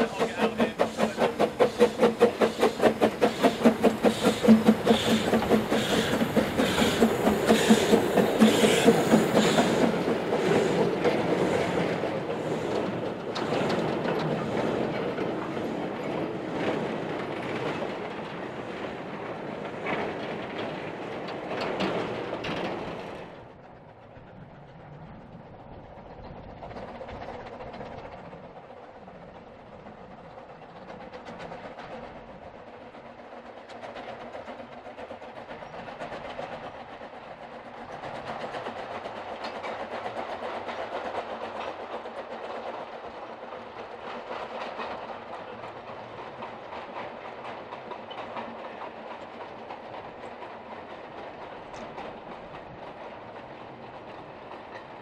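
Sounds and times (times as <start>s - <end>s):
wagons rattling over rail joints: 0.0s - 25.0s, 30.2s - 55.0s
distant train of wagons rolling: 0.0s - 55.0s.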